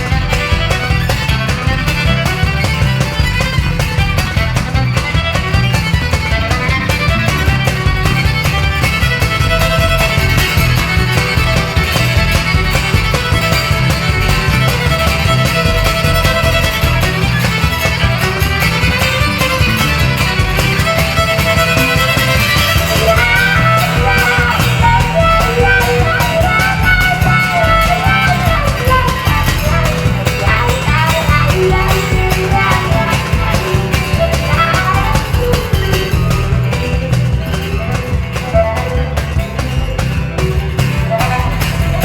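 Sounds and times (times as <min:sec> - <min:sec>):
instrumental rock band: 0:00.0 - 0:42.0.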